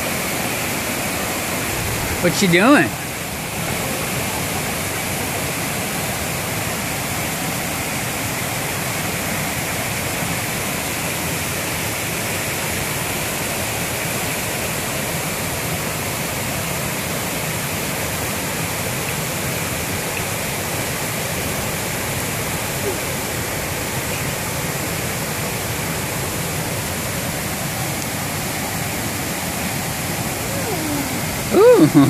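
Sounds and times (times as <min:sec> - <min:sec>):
creek rushing over boulders: 0:00.0 - 0:32.0.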